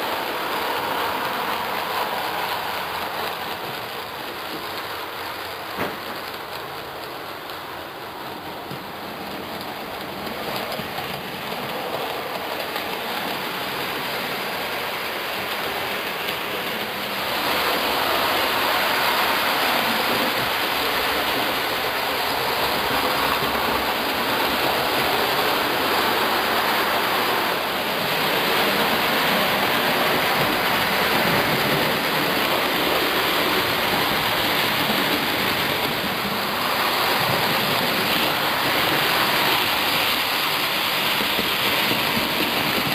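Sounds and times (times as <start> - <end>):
model trains whirring on rails: 0.0 - 42.9.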